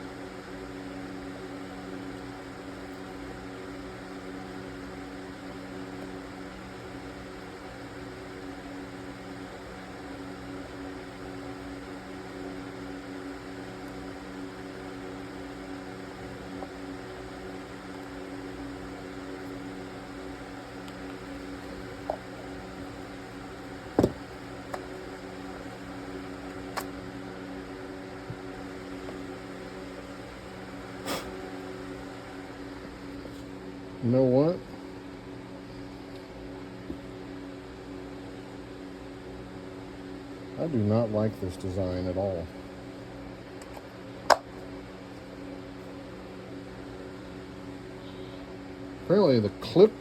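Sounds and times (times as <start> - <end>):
steady mechanical hum: 0.0 - 50.0.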